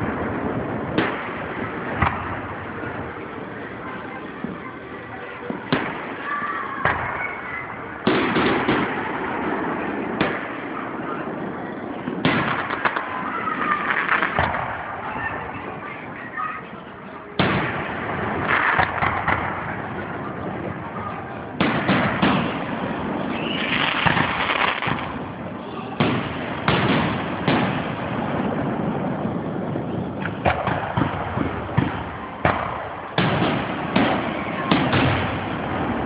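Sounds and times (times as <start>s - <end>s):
fireworks bursting with bangs: 0.0s - 36.0s.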